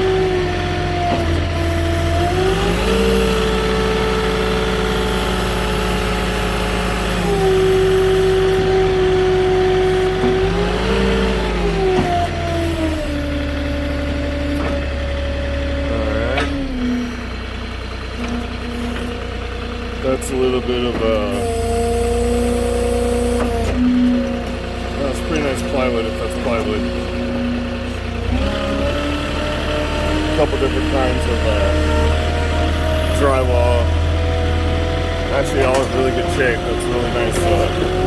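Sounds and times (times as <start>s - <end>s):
diesel engine revving under load: 0.0s - 38.0s.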